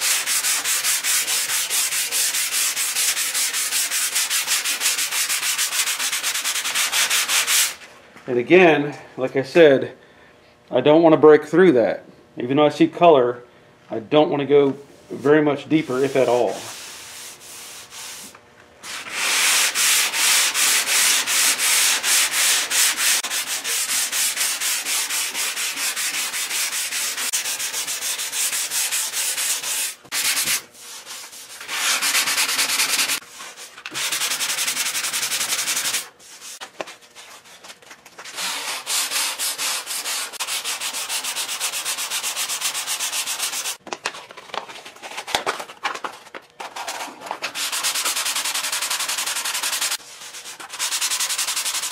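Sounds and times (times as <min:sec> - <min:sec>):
sandpaper rubbing on filler: 0:00.0 - 0:07.8, 0:15.2 - 0:43.8, 0:46.6 - 0:51.9.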